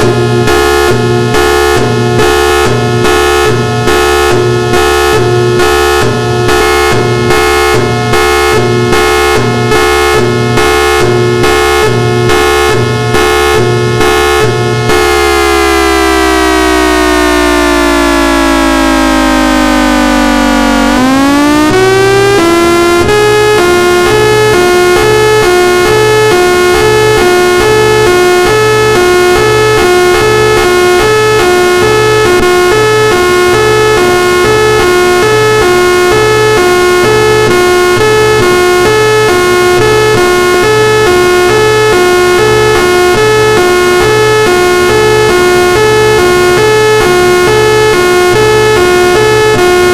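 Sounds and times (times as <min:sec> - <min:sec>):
pulsing two-note siren: 0:00.0 - 0:49.9.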